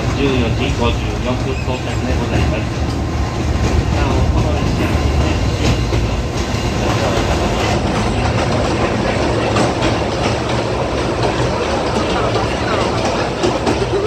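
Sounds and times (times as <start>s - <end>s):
train running gear rumble: 0.0s - 14.0s
train wheels clacking: 0.0s - 14.0s.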